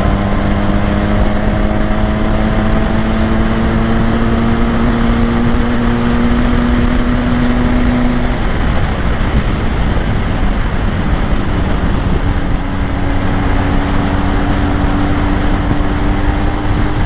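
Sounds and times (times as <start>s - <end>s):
motorcycle engine at speed: 0.0s - 17.0s
wind rush: 0.0s - 17.0s.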